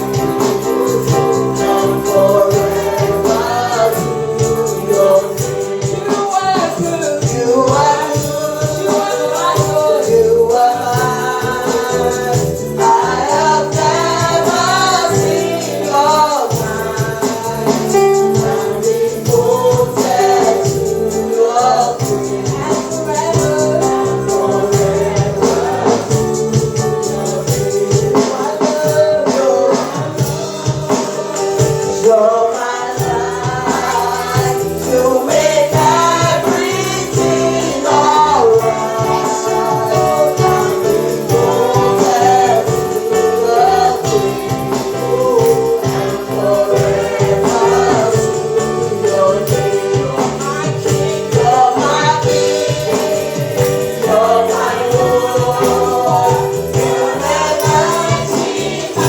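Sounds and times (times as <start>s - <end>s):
people singing: 0.0s - 59.0s
percussion beat: 0.0s - 59.0s
worship band playing: 0.0s - 59.0s.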